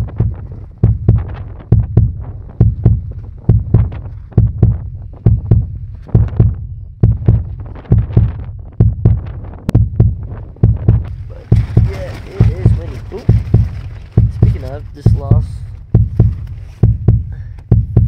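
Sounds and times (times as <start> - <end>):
tent walls flapping in wind: 0.0 - 16.9.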